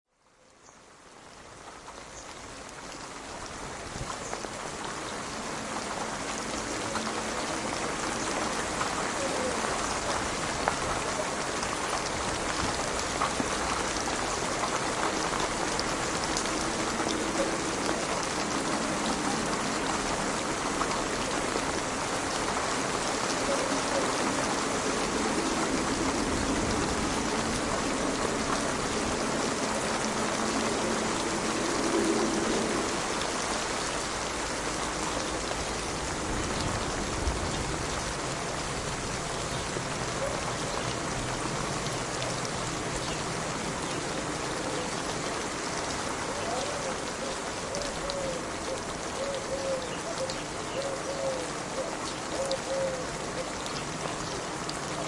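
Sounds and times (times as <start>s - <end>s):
steady rain falling: 0.1s - 55.0s.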